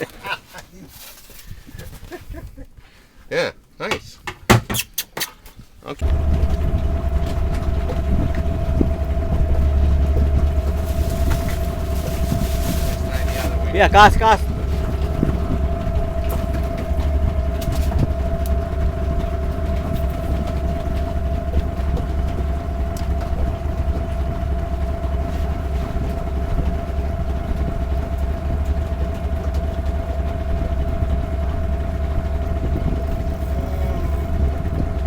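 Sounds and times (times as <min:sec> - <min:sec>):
outboard engine running: 0:06.0 - 0:35.0.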